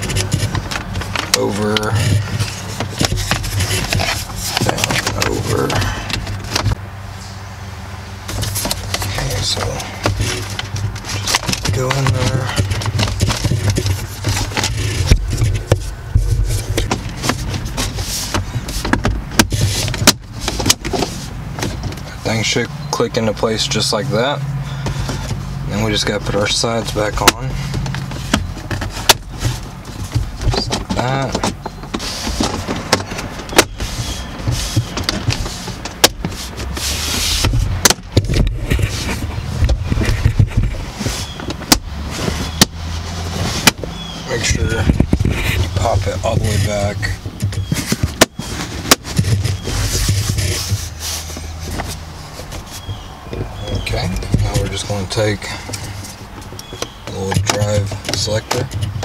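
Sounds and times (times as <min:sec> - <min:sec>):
plastic trim clicking and scraping: 0:00.0 - 0:06.8, 0:08.3 - 0:22.1, 0:24.8 - 0:59.0.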